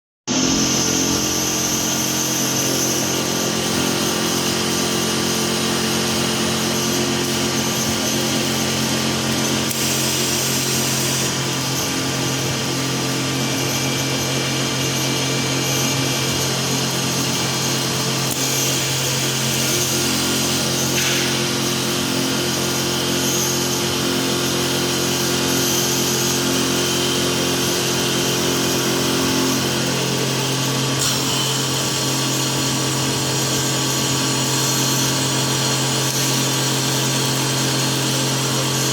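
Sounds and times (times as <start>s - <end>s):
wood lathe running: 0.3s - 38.9s.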